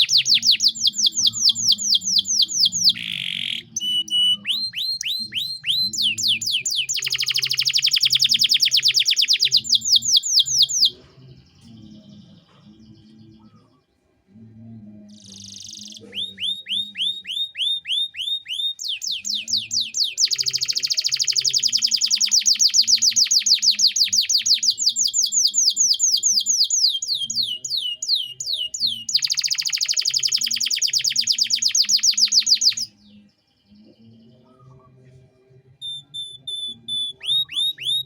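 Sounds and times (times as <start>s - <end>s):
canary singing: 0.0s - 14.0s, 15.0s - 35.0s, 35.8s - 38.0s.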